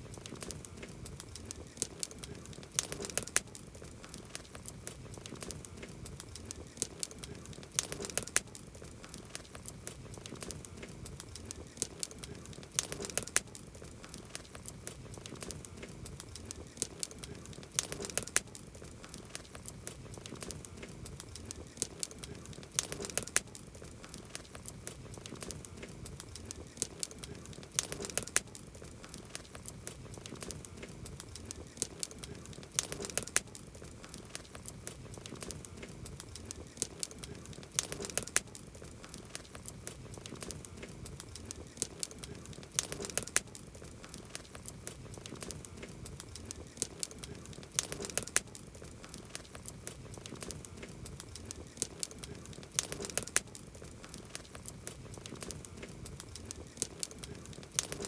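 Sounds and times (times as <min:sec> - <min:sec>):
campfire crackling: 0:00.0 - 0:58.0
sharp fire pops: 0:00.0 - 0:58.0.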